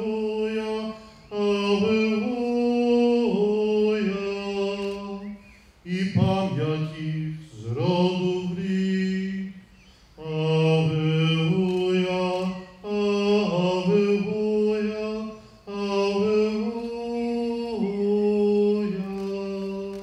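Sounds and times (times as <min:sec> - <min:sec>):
priest chanting: 0:00.0 - 0:09.6, 0:10.2 - 0:20.0.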